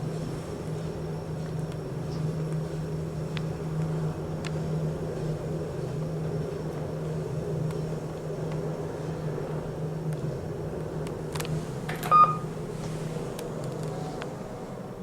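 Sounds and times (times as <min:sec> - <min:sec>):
lift machinery humming: 0:00.0 - 0:15.0.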